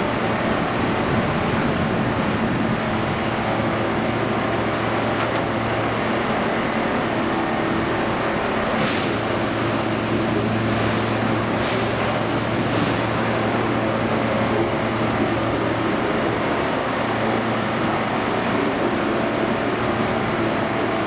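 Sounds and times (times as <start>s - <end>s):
heavy machinery engine drone: 0.0s - 21.0s.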